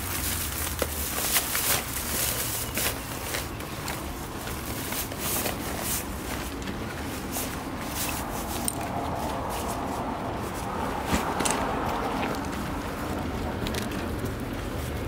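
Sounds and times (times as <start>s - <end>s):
backpack fabric rustling: 0.0s - 13.8s
low background noise: 0.0s - 15.0s.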